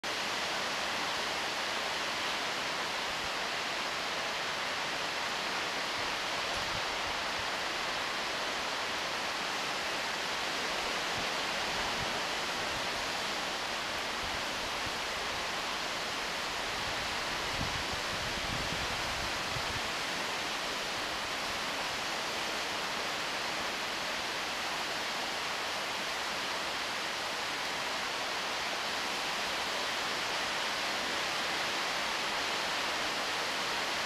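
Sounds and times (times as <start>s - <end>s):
river rapids rushing: 0.0s - 34.0s.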